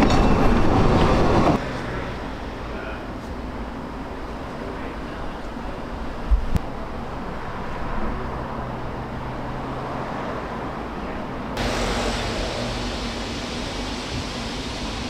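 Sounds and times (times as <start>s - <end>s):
moving train rumble and hiss: 0.0s - 15.0s.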